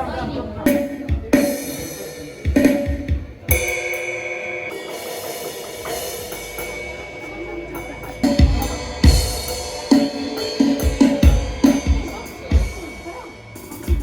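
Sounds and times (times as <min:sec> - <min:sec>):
background music: 0:00.0 - 0:14.0
cymbal crash: 0:00.7 - 0:14.0
drum hits: 0:00.7 - 0:14.0.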